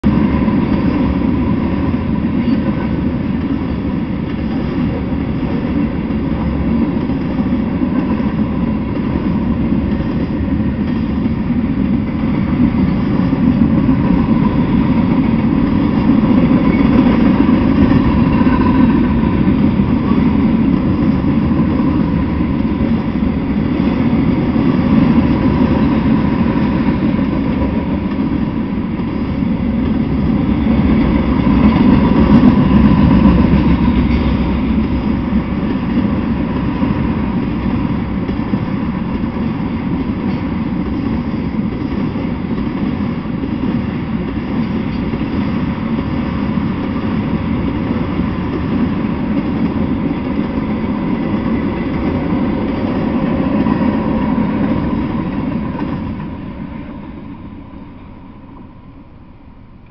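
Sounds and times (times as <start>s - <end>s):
freight train cars rumbling: 0.0s - 59.9s.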